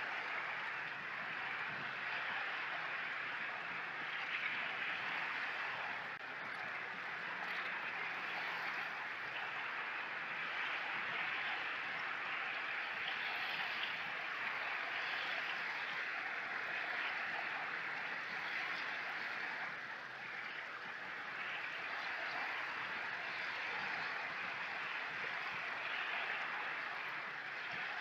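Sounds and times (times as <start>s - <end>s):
sea waves lapping on beach: 0.0s - 28.0s.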